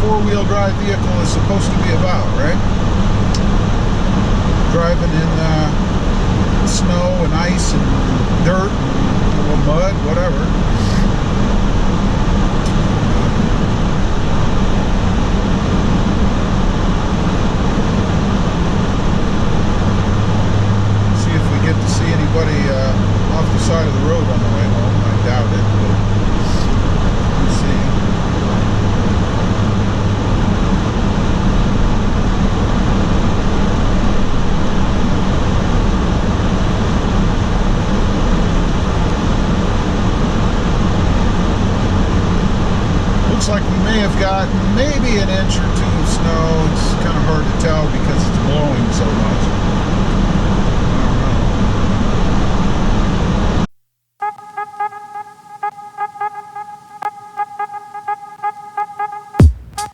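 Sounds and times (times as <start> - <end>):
low drivetrain drone: 0.0 - 51.6
in-cabin road noise: 0.0 - 53.6.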